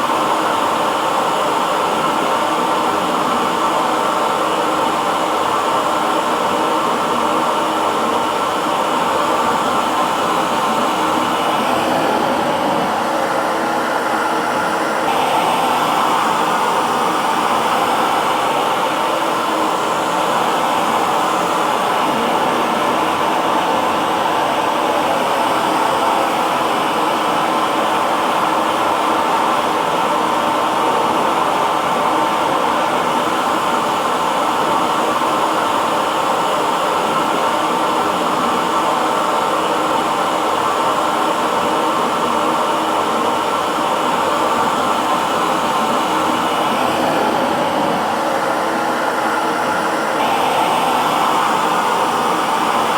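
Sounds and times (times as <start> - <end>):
hair dryer blowing air: 0.0 - 52.9.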